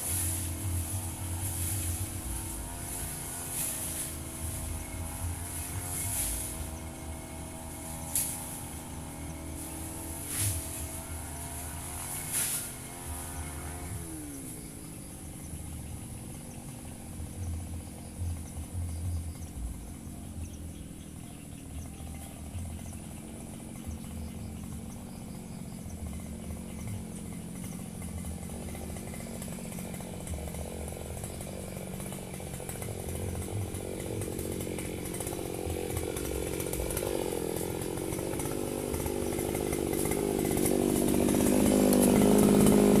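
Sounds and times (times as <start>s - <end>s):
brush cutter engine running: 0.0s - 43.0s.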